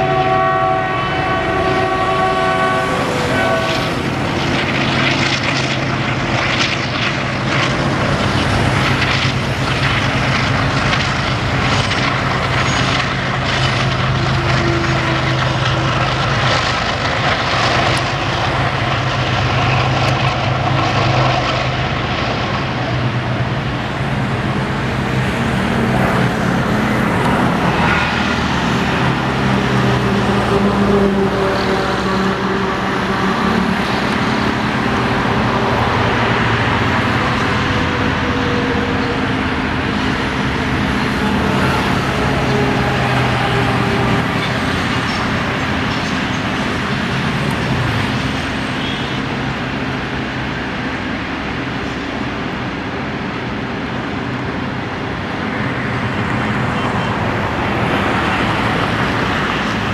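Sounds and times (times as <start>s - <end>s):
freight train rumbling on track: 0.0s - 59.9s.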